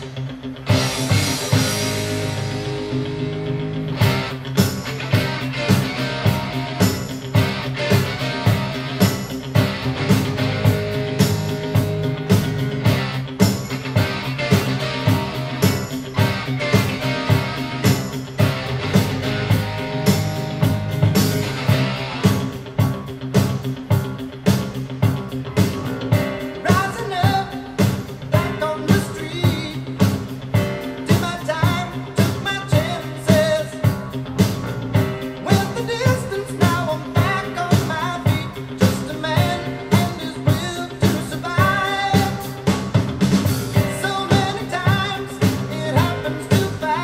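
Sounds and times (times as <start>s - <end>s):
pop-rock song with singer: 0.0s - 47.0s.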